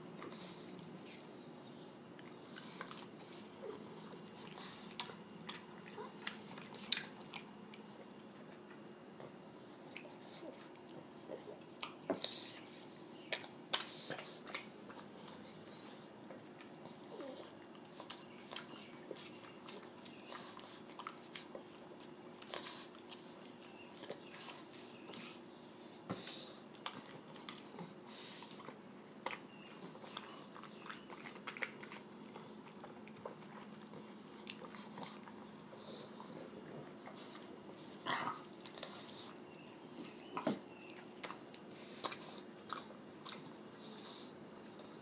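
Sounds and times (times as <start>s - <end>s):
dog chewing watermelon: 0.0s - 45.0s
faint steady hum: 0.0s - 45.0s.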